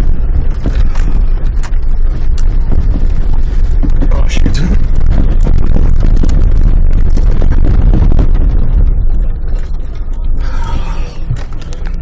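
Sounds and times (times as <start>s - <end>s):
suspension knocks and jolts: 0.0s - 12.0s
vehicle rumbling off-road: 0.0s - 12.0s.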